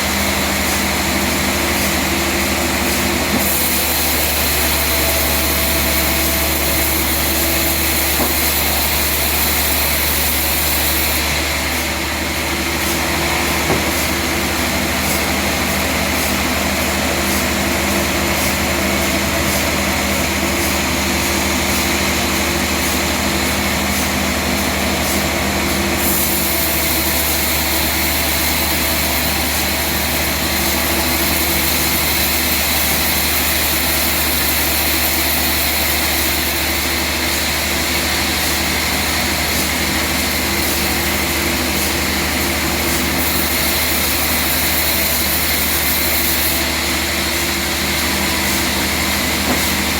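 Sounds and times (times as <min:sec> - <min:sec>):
sawmill machinery droning: 0:00.0 - 0:49.9.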